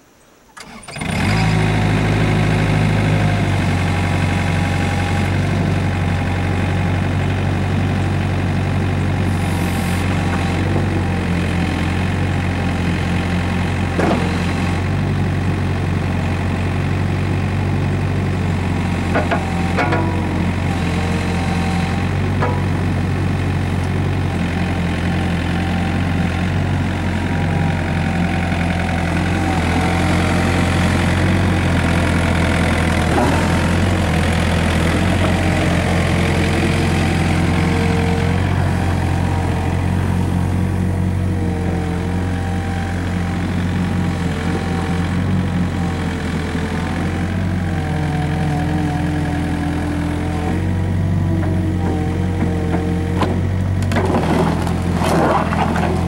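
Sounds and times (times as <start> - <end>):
excavator diesel engine running: 0.6 - 56.0.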